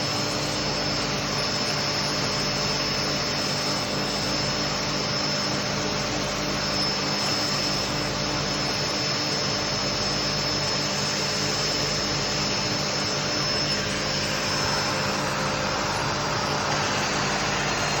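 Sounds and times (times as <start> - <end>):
power tool whirring drone: 0.0 - 18.0.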